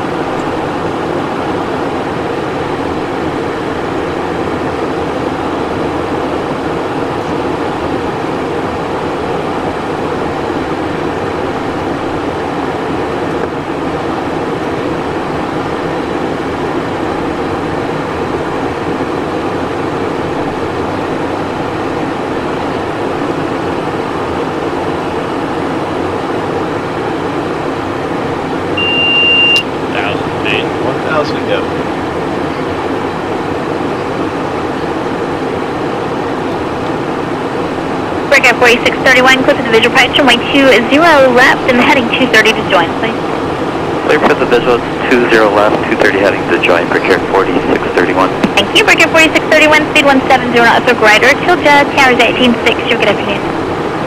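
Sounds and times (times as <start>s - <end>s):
jet cockpit cabin noise: 0.0s - 54.0s.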